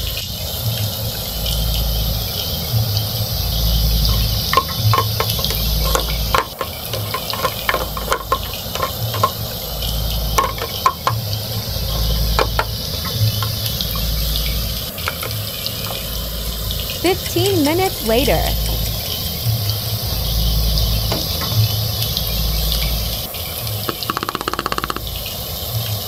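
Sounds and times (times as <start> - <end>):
low pulsing hum: 0.0 - 23.9
toy frying sizzle: 0.0 - 26.0.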